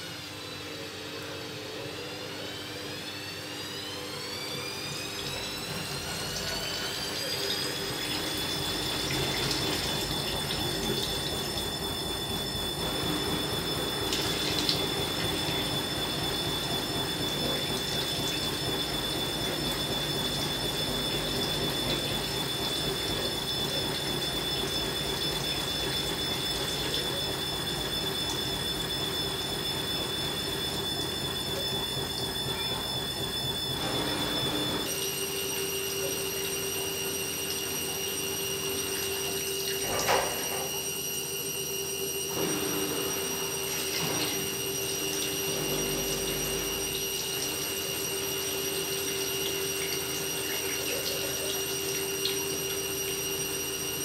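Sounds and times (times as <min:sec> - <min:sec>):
washing machine motor whine: 0:00.0 - 0:54.0
water pouring into a bucket: 0:05.0 - 0:54.0.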